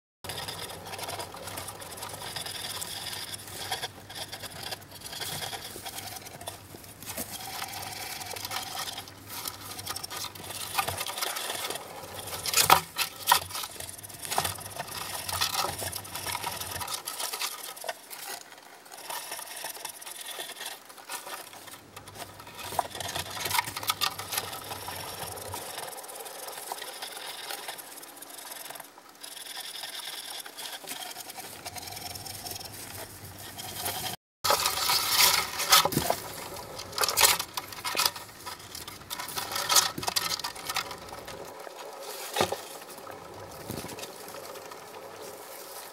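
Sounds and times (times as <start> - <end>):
running wheel spinning and rattling: 0.2 - 45.9.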